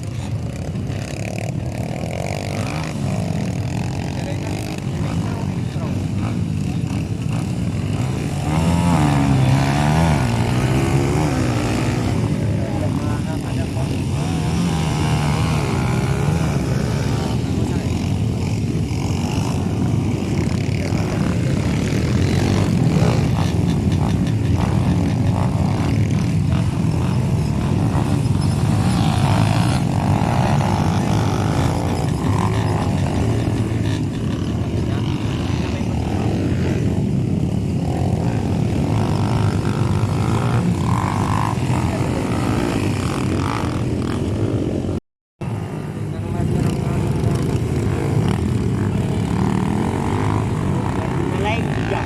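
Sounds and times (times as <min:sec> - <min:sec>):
dirt bike engines droning: 0:00.0 - 0:52.0.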